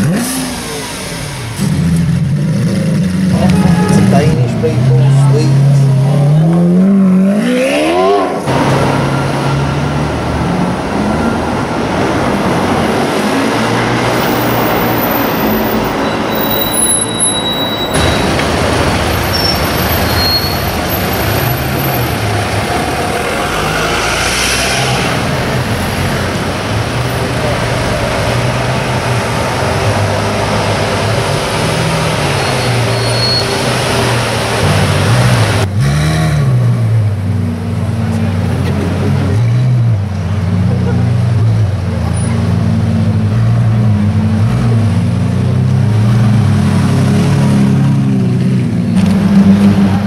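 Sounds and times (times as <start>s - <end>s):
car engine revving: 0.0s - 17.2s, 17.8s - 50.0s
street noise: 0.0s - 50.0s.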